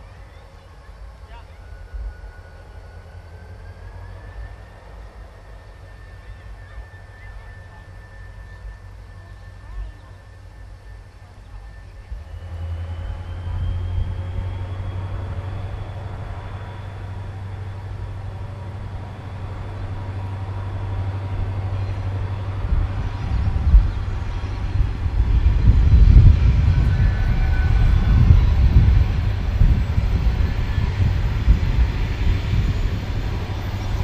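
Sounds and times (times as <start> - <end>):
diesel locomotive engines droning: 0.0 - 34.0
high whine climbing in pitch: 0.0 - 34.0.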